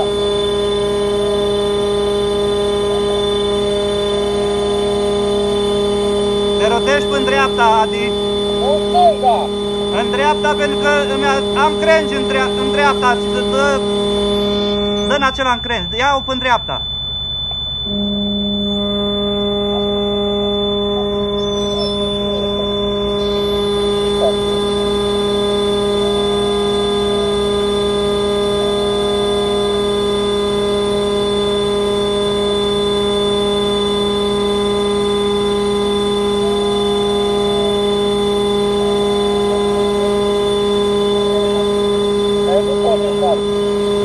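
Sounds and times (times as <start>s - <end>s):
fire truck engine drone: 0.0s - 44.0s
hydraulic drive whine: 0.0s - 44.0s.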